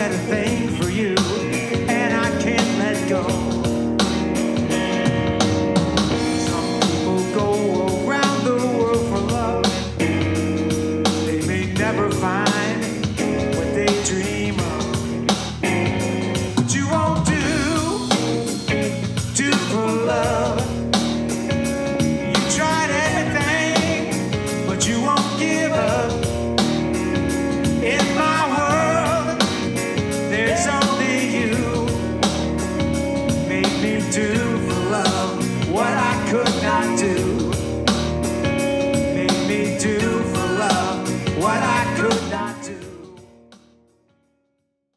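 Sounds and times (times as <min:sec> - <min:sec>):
man singing: 0:00.0 - 0:04.0, 0:06.2 - 0:10.3, 0:11.0 - 0:21.0, 0:22.0 - 0:26.7, 0:27.6 - 0:32.5, 0:33.2 - 0:38.0, 0:38.8 - 0:43.4
live band playing: 0:00.0 - 0:43.8.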